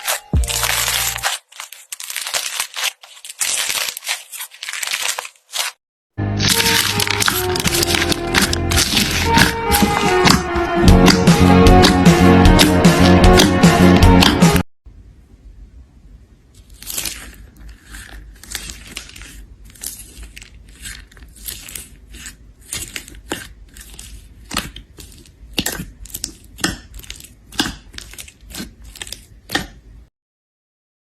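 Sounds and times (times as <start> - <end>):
slime crackling and squishing: 0.0 - 5.8, 6.4 - 12.0, 16.6 - 30.0.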